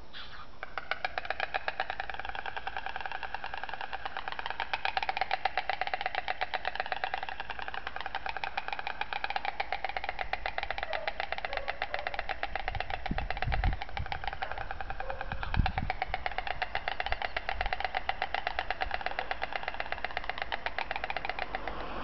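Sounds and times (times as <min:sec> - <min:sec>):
storks bill-clattering: 0:00.0 - 0:22.0.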